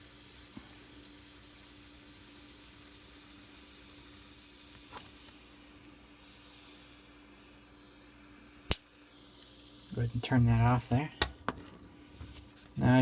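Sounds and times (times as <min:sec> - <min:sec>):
soldering iron hissing: 0:00.0 - 0:13.0.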